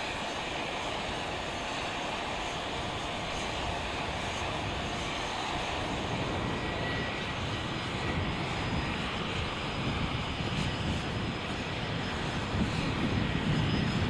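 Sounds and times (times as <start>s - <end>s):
faint high whine: 0.0s - 14.0s
jet engine noise: 0.0s - 14.0s.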